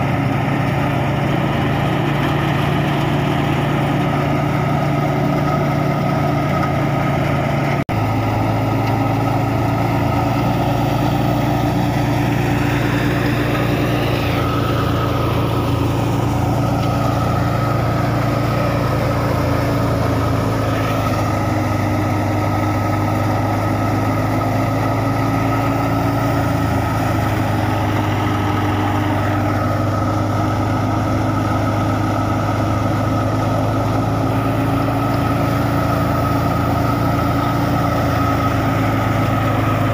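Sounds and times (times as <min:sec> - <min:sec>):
tractor engine drone: 0:00.0 - 0:39.9
wheat thresher running: 0:00.0 - 0:39.9.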